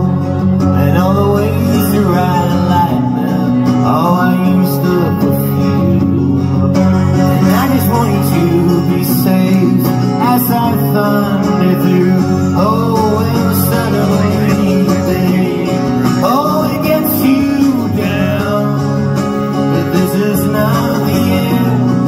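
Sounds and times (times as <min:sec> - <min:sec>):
man singing: 0:00.0 - 0:22.0
twelve-string acoustic guitar: 0:00.0 - 0:22.0.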